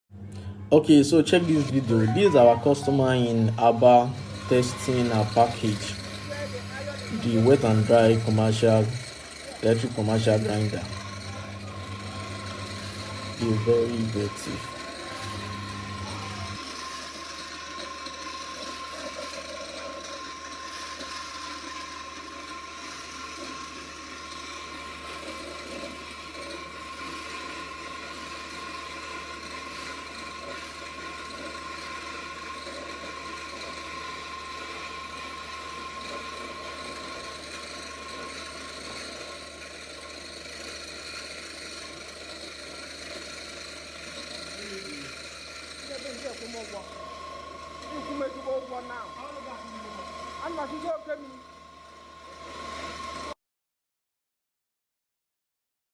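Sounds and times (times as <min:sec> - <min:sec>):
electric grinder running: 0:00.2 - 0:53.4.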